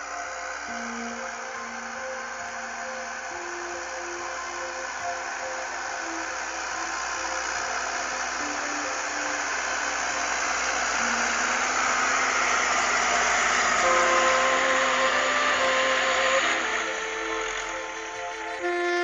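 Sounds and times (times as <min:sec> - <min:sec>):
background music with held notes: 0:00.0 - 0:19.0
tractor engine drone: 0:00.0 - 0:19.0.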